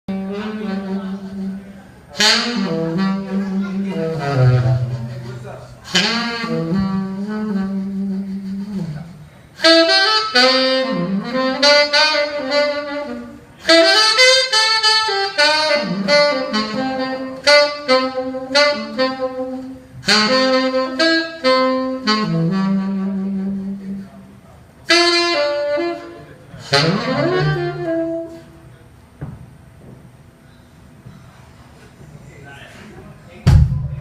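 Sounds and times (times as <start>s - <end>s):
solo saxophone playing: 0.1s - 28.8s.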